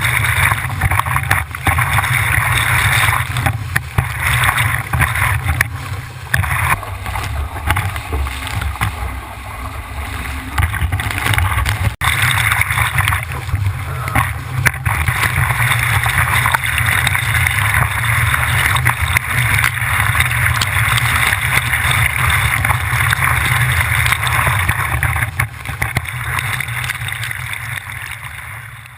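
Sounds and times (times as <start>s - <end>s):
water splashing along boat hull: 0.0s - 28.9s.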